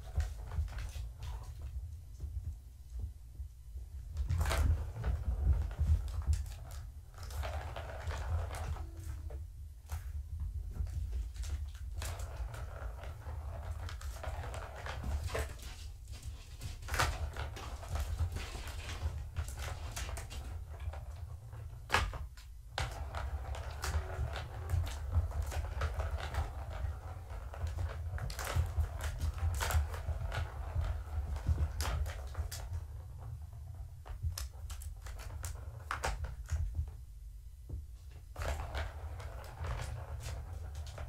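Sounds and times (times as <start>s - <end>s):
plastic ball rattling in track: 0.0s - 2.3s, 4.0s - 37.0s, 38.0s - 41.0s.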